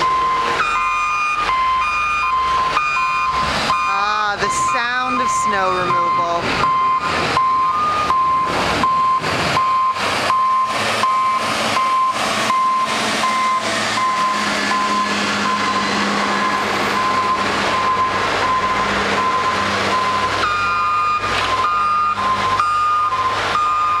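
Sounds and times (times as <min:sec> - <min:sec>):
diesel engine running: 0:00.0 - 0:24.0
higher-pitched backup beeper: 0:00.0 - 0:24.0
reversing alarm beeping: 0:00.0 - 0:24.0.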